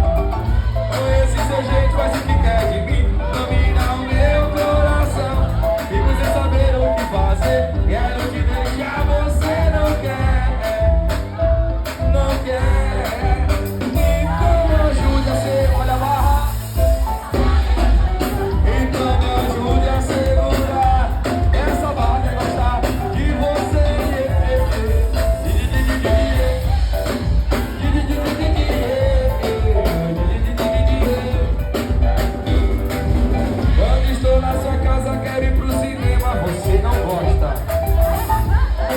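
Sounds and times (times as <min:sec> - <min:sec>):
heavy pulsing bass: 0:00.0 - 0:38.9
person singing: 0:00.0 - 0:38.9
steady drum beat: 0:00.0 - 0:38.9.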